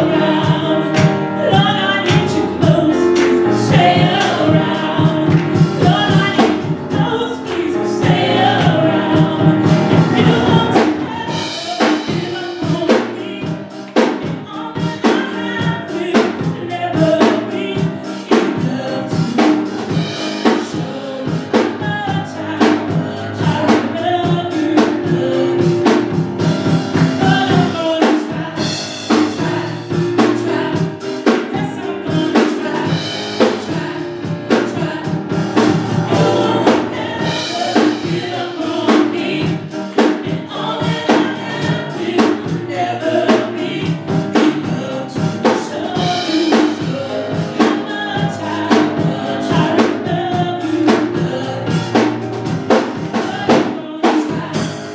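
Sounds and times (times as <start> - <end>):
drum kit beat: 0.0 - 54.9
vocal group singing gospel: 0.0 - 54.9.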